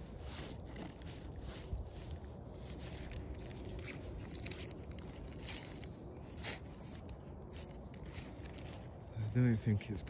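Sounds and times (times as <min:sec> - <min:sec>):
clothing and phone rustle: 0:00.0 - 0:09.9.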